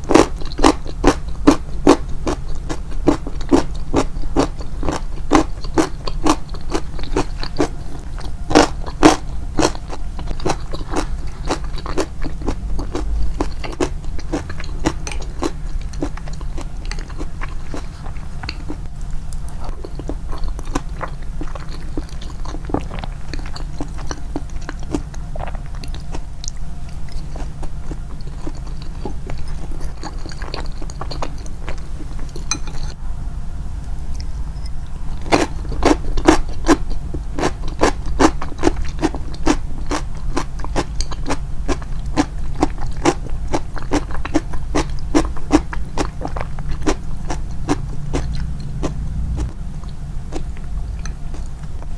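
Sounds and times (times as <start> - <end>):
crunchy chewing of pickles: 0.0 - 33.0, 34.1 - 51.9
steady low hum: 0.0 - 51.9.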